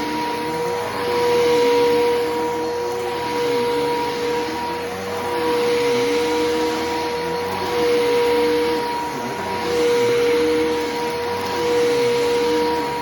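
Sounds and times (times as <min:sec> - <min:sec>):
vacuum cleaner whine: 0:00.0 - 0:13.0.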